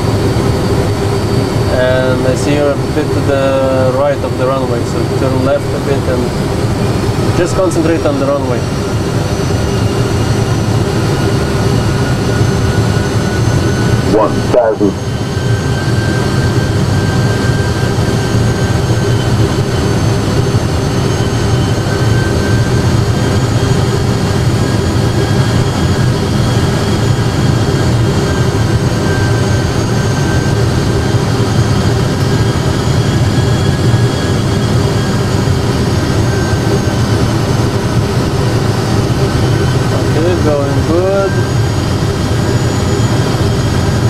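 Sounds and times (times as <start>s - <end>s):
faint steady whines: 0.0s - 44.0s
simulated jet engine rumble: 0.0s - 44.0s.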